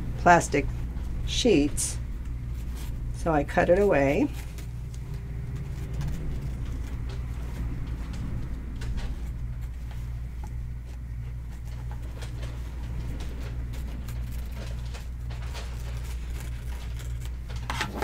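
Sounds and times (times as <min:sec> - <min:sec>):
steady low hum: 0:00.0 - 0:18.0
stabilizer rustling: 0:00.6 - 0:18.0.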